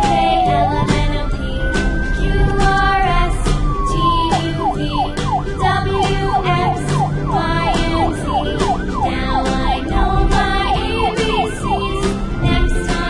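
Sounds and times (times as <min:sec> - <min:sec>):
background music with steady beat: 0:00.0 - 0:13.0
siren yelp and wail: 0:00.0 - 0:13.0.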